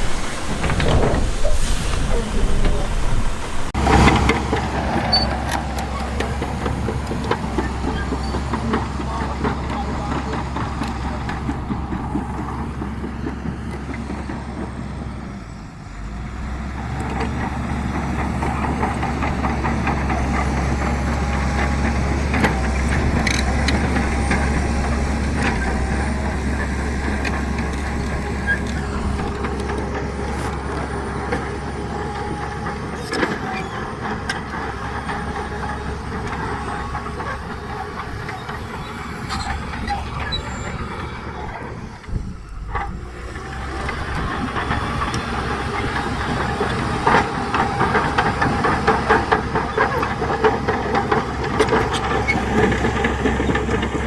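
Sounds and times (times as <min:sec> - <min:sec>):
bulldozer diesel engine running: 0:00.0 - 0:54.0
steel tracks clanking: 0:00.0 - 0:54.0.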